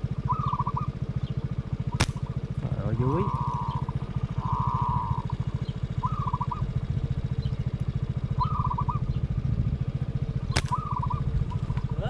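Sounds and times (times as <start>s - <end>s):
dove trilling calls: 0.0s - 12.0s
motor throbbing: 0.0s - 12.0s.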